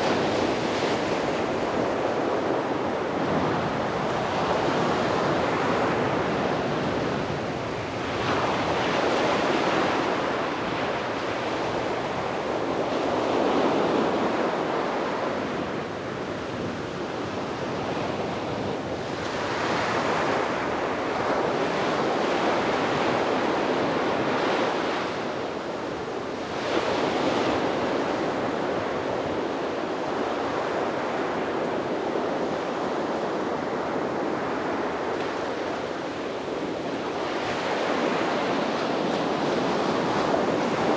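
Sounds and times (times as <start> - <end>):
sea waves breaking on beach: 0.0 - 40.9
wind on microphone: 0.0 - 40.9.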